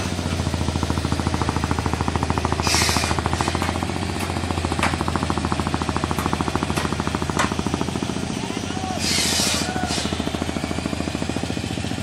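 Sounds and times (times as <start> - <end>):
boat motor chugging: 0.0 - 12.0.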